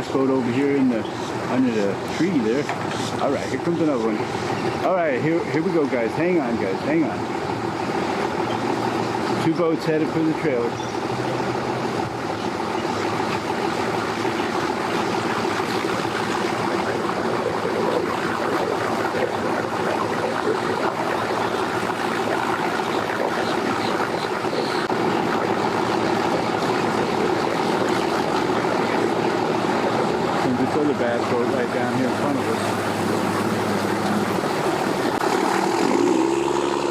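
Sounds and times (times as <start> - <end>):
outboard motors running: 0.0 - 36.9
steady wash of noise: 0.0 - 36.9.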